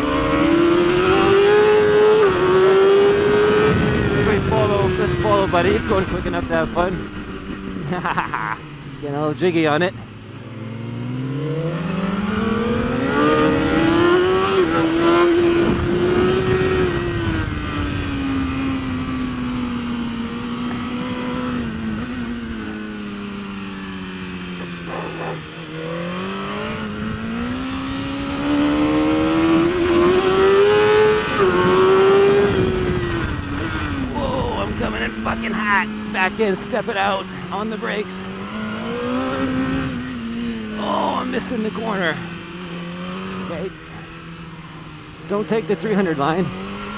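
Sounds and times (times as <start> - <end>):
motorcycle engine accelerating hard: 0.0 - 46.9.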